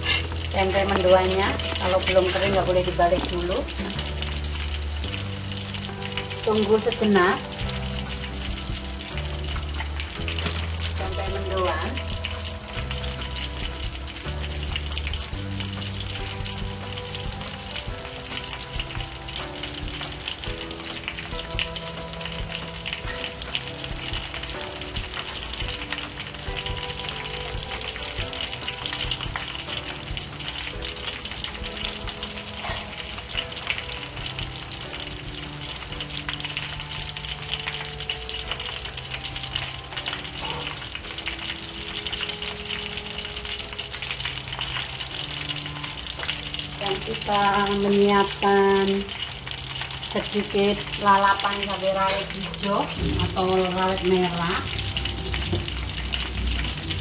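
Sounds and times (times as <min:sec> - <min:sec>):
battered slices deep-frying in oil: 0:00.0 - 0:57.0.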